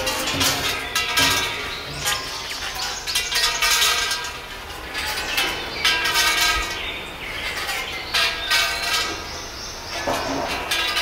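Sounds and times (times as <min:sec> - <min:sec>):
large wind chime tubes knocking: 0:00.0 - 0:11.0.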